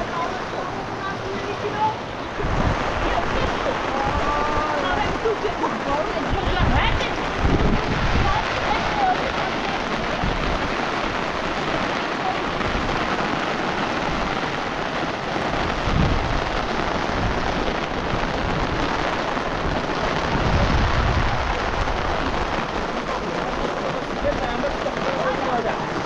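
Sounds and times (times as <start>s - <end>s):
heavy rain pouring: 0.0s - 26.0s
low rumbles: 0.0s - 26.0s.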